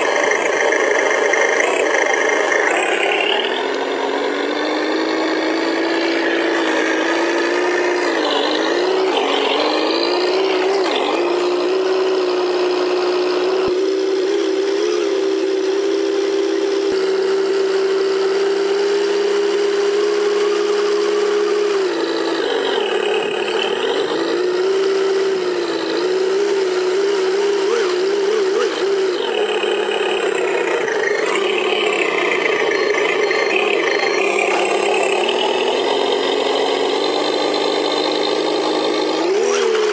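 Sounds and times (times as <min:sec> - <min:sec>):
simulated engine sound: 0:00.0 - 0:39.9.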